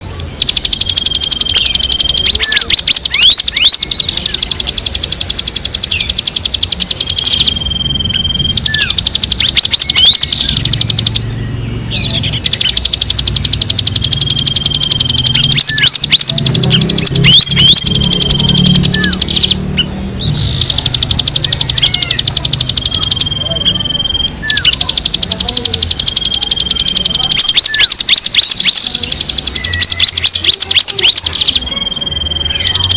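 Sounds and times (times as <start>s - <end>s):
bird trilling: 0.2s - 32.9s
bird whistles: 0.6s - 11.2s, 11.9s - 25.1s, 26.2s - 32.9s.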